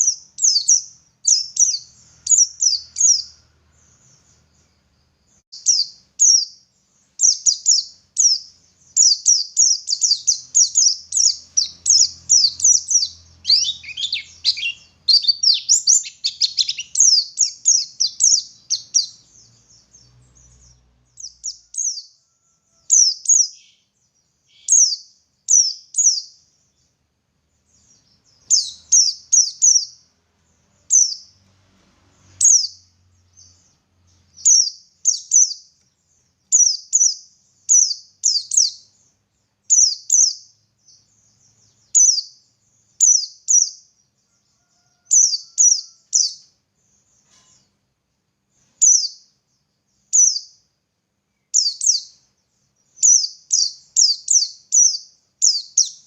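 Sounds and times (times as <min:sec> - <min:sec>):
bird singing high chirps: 0:00.0 - 0:31.4, 0:32.2 - 0:47.7, 0:48.6 - 0:50.7, 0:51.3 - 0:56.0.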